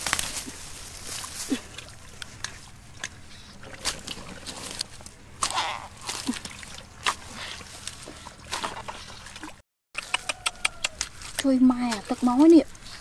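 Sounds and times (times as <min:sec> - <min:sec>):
dry grass and twigs crackling: 0:00.0 - 0:09.0, 0:10.0 - 0:13.0.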